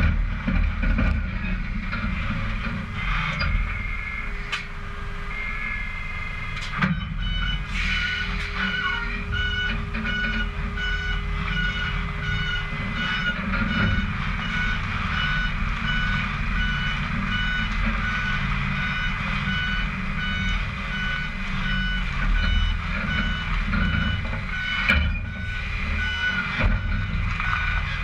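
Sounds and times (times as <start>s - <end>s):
diesel engine rumble: 0.0s - 28.0s
reversing alarm beeps: 5.1s - 27.8s.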